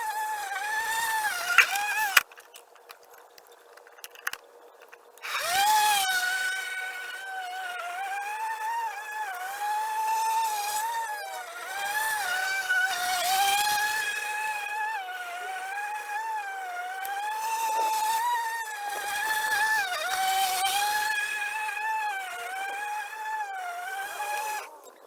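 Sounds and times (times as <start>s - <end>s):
electric lawn mower whine: 0.0s - 25.0s.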